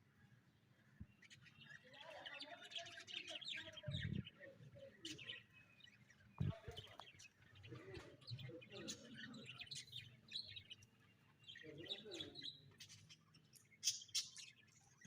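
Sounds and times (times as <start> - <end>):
budgerigars chirping: 0.7 - 15.0.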